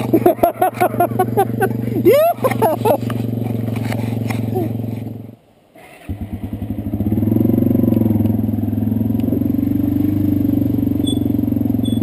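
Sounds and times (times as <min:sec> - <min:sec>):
small petrol engine running: 0:00.0 - 0:05.3, 0:06.0 - 0:12.0.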